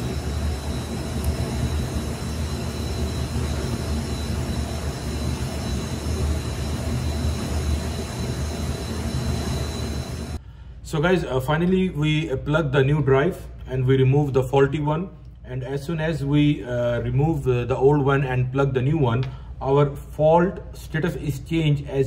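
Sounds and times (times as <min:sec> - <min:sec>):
server cooling fans whirring: 0:00.0 - 0:22.0.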